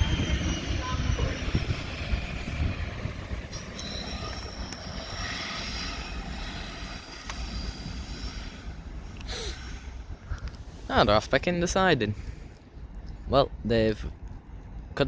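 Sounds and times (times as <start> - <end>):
faint high whine: 0.0 - 12.4
locomotive engines droning: 0.0 - 15.0.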